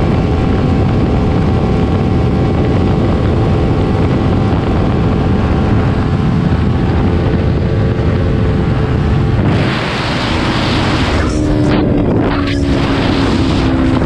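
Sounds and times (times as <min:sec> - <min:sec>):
motorcycle engine cruising: 0:00.0 - 0:14.0
wind noise on microphone: 0:00.0 - 0:14.0.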